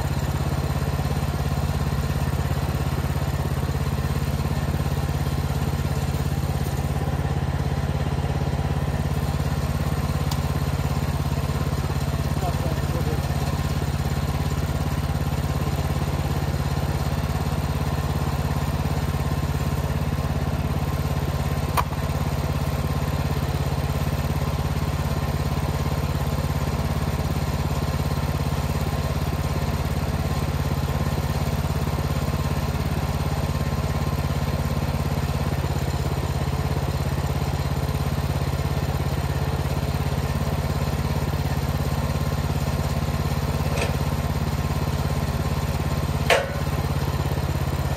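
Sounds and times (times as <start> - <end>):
small gasoline engine running: 0.0 - 47.9.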